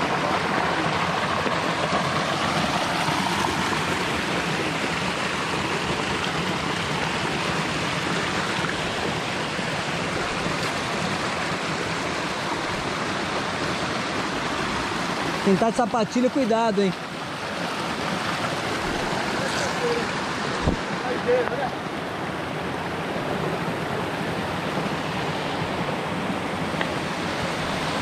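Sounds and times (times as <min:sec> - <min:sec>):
waterfall rushing over rocks: 0:00.0 - 0:28.0.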